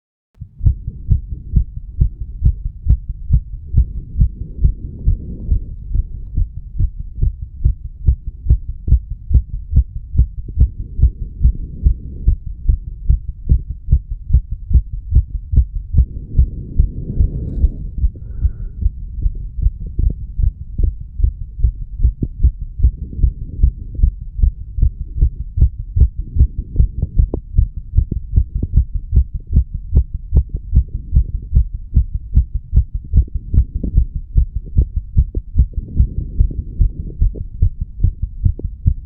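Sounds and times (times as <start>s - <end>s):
heartbeat lub-dub thuds: 0.4s - 39.0s.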